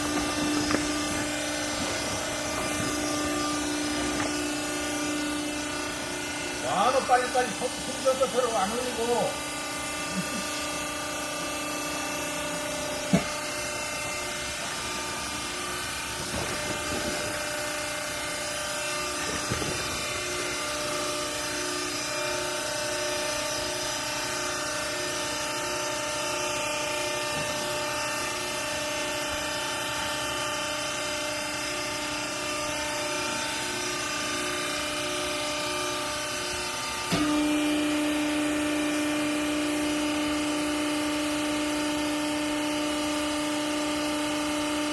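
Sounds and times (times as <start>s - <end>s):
electric motor and pump hum: 0.0s - 44.9s.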